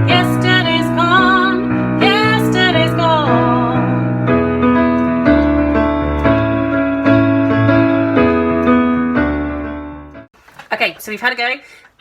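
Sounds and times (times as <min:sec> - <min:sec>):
piano chords: 0:00.0 - 0:10.3.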